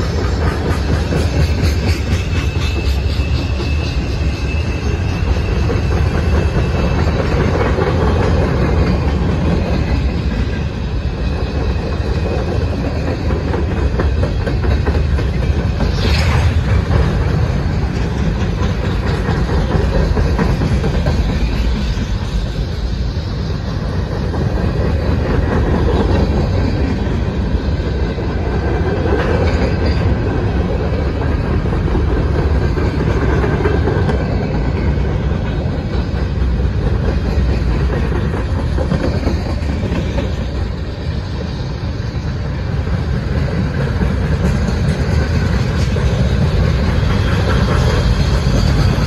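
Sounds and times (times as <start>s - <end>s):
steel wheels rumbling on rail: 0.0s - 49.0s.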